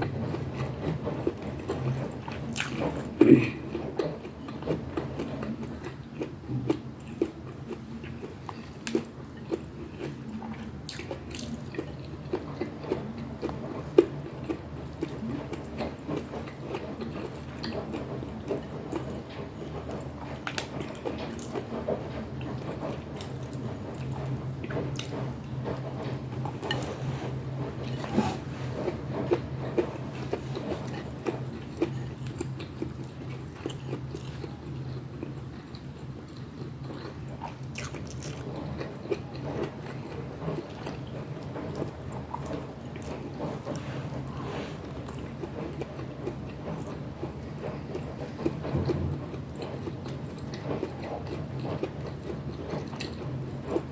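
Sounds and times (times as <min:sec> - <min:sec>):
person chewing and lip smacking: 0:00.2 - 0:48.7.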